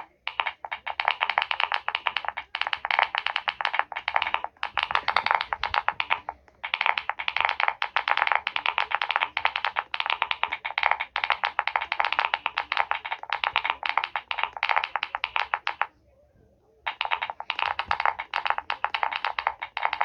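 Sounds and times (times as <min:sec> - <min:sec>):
fast typing on keyboard: 0:00.0 - 0:15.9, 0:16.9 - 0:20.0.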